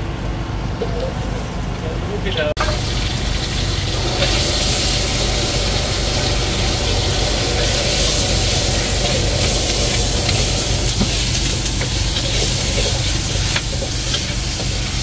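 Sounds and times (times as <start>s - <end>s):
food sizzling in a wok: 2.6s - 15.0s
gas burner rushing: 2.6s - 15.0s.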